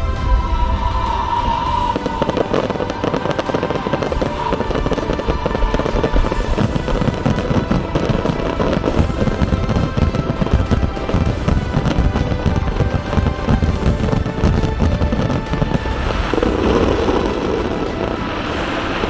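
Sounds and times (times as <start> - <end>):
fireworks crackling and popping: 0.0 - 19.0
music playing: 0.0 - 19.0.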